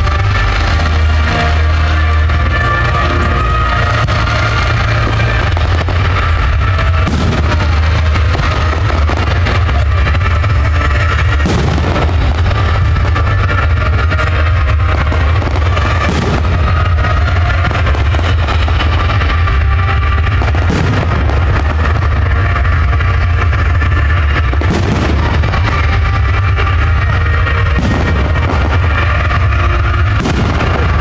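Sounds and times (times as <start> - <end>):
faint music: 0.0 - 31.0
fireworks bangs: 0.0 - 31.0
loud low rumble: 0.0 - 31.0.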